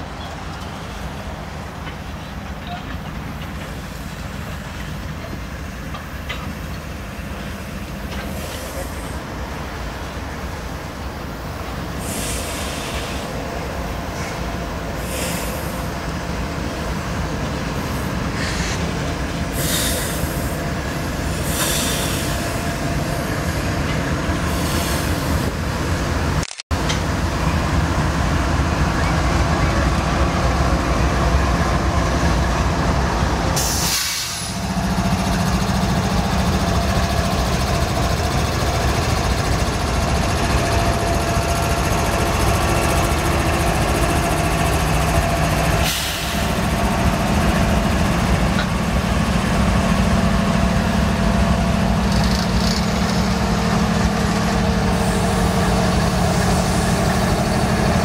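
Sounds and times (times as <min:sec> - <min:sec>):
diesel locomotive engine rumble: 0:00.0 - 0:58.0
train wheels rumbling on rails: 0:00.0 - 0:58.0.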